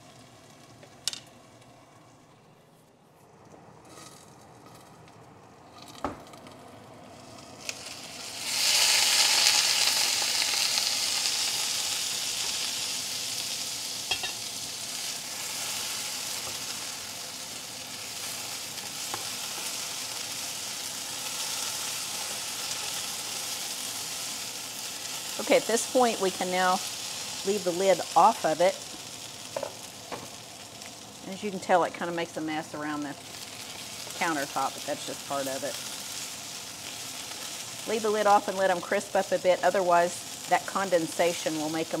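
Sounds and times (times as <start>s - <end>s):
potatoes sizzling in a skillet: 7.1s - 42.0s.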